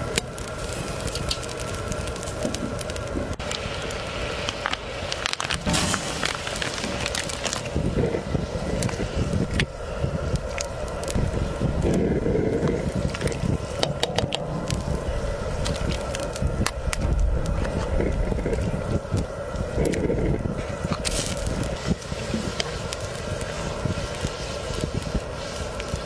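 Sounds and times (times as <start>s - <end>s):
low rumble: 0.0s - 25.2s
water boiling and bubbling: 0.0s - 26.0s.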